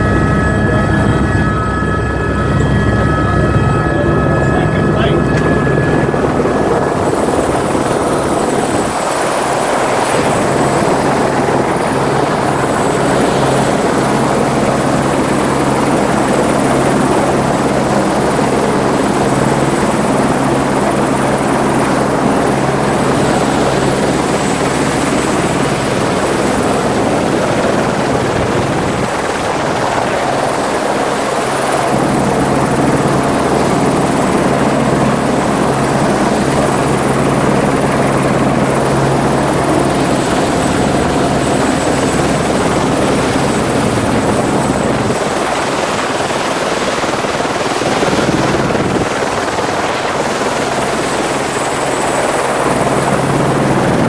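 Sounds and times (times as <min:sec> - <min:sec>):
helicopter rotor beating: 0:00.0 - 0:54.0.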